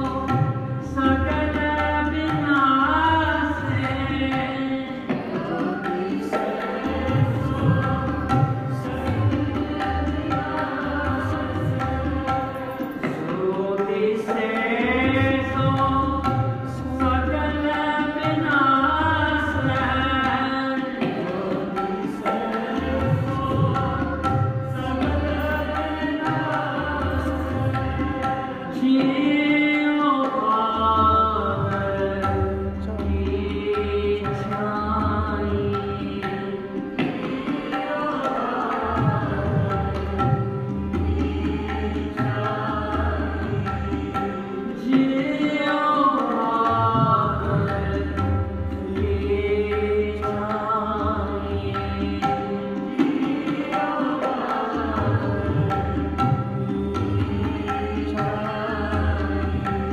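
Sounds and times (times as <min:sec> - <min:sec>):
tabla playing: 0:00.0 - 0:59.9.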